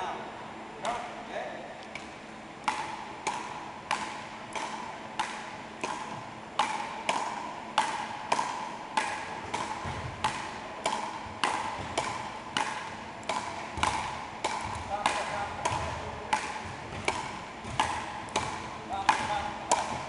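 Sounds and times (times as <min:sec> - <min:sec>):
paddles striking a ball: 0:01.9 - 0:20.0.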